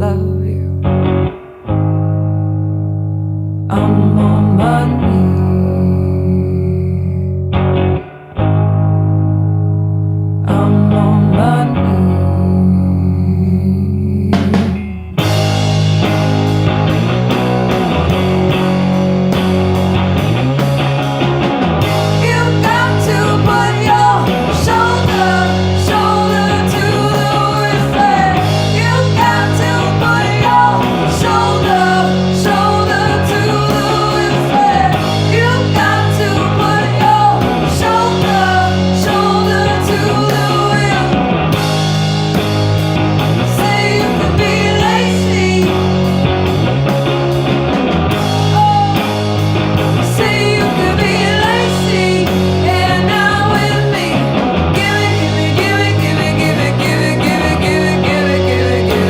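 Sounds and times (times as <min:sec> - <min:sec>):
lead guitar bending notes: 0:00.0 - 0:10.4, 0:11.8 - 0:59.0
repeating bass line: 0:00.9 - 0:59.0.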